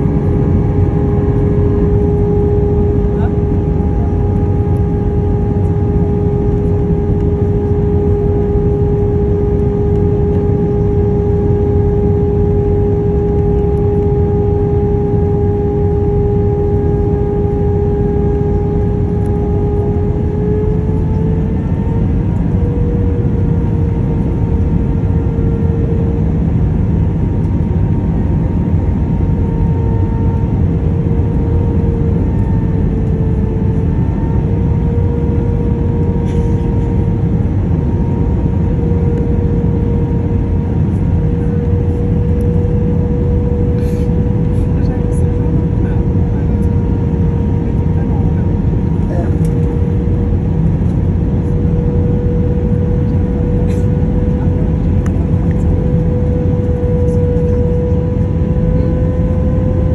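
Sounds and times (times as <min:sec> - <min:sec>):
airflow rushing in aircraft cabin: 0:00.0 - 0:59.9
jet engines humming: 0:00.0 - 0:59.9.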